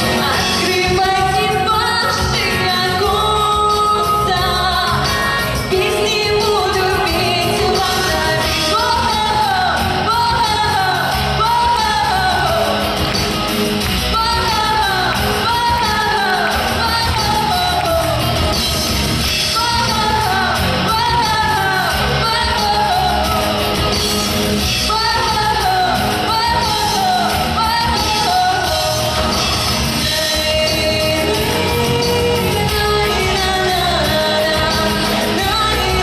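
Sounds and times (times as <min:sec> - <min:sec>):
backing track: 0:00.0 - 0:36.0
woman singing pop song: 0:00.0 - 0:36.0.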